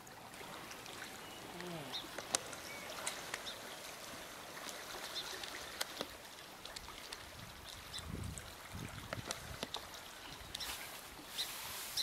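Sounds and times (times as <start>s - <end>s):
small waves lapping on rocks: 0.0s - 12.0s.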